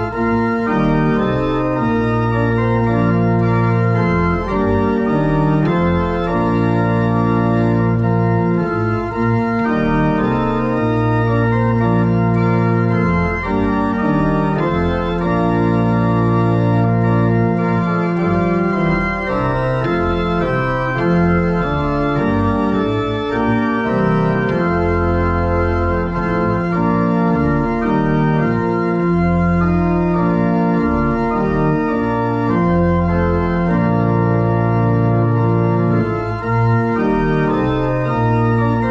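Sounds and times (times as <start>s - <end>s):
pipe organ chords: 0.0s - 38.9s.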